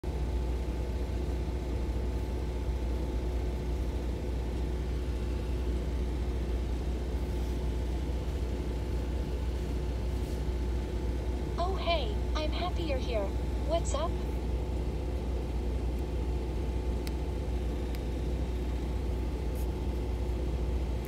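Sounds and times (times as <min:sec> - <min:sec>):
engine idling rumble: 0:00.0 - 0:21.0
faint constant hum: 0:00.0 - 0:21.0.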